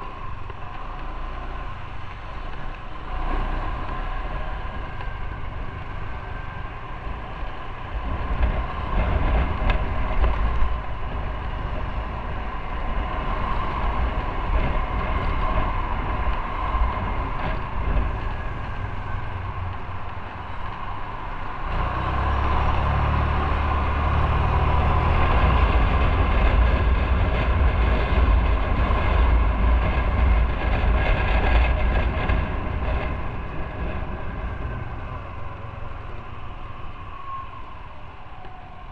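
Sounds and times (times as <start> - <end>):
motorcycle riding rumble: 0.0 - 38.9.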